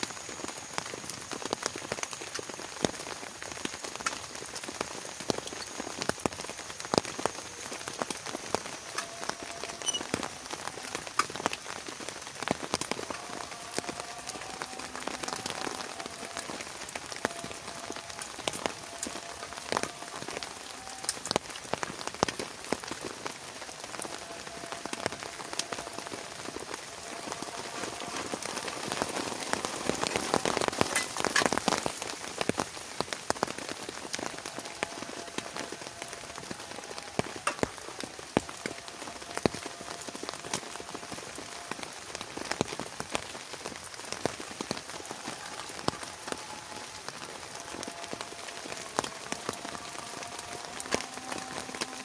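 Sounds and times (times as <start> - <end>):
heavy rain falling: 0.0 - 52.0
raindrops striking close by: 0.0 - 52.0.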